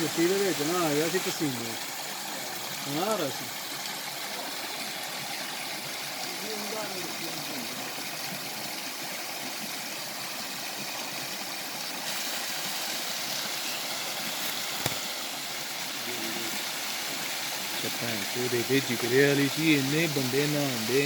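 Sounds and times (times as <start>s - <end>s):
waterfall rushing: 0.0s - 9.0s, 12.1s - 21.0s.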